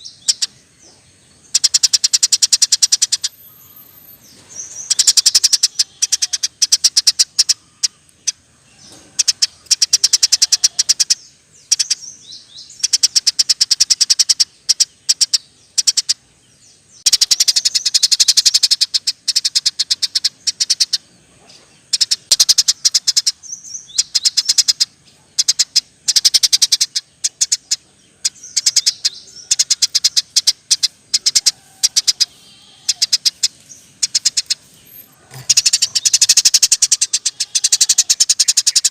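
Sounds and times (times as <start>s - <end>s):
sparrow chirping rapidly: 0.0s - 38.9s.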